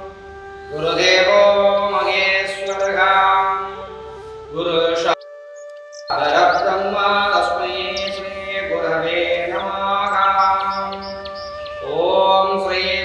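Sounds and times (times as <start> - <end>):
steady low drone: 0.0 - 5.2, 5.8 - 13.0
man chanting a prayer: 0.7 - 5.2, 6.1 - 13.0.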